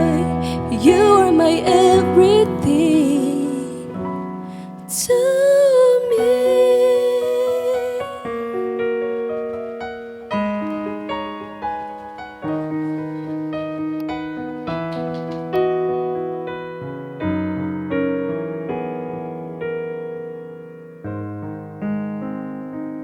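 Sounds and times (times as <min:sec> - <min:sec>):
piano playing sustained chords: 0:00.0 - 0:23.0.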